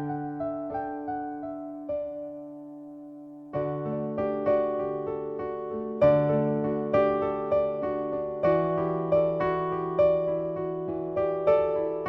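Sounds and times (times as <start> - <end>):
soft electric piano melody: 0.0 - 12.0.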